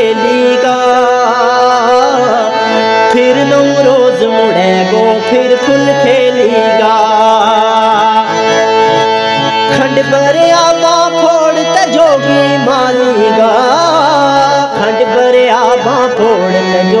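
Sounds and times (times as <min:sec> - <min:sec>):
ornamented melodic instrument: 0:00.0 - 0:17.0.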